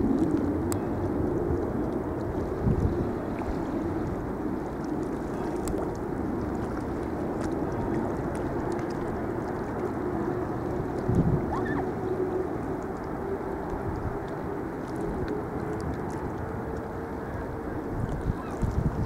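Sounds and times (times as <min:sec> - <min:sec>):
steady low rumble: 0:00.0 - 0:19.0
water lapping and sloshing: 0:00.0 - 0:19.0.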